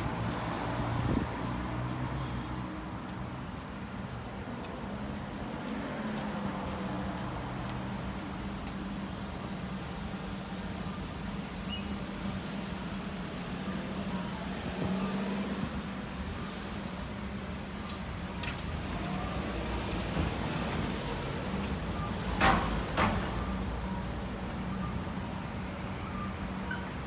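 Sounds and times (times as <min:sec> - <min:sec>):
urban background noise: 0:00.0 - 0:27.0.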